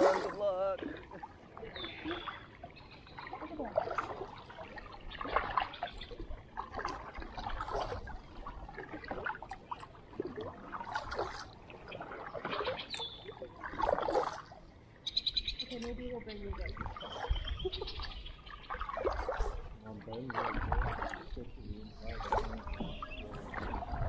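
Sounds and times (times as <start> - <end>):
paddle dipping into water: 0.0 - 24.0
water trickling off paddle: 0.0 - 24.0.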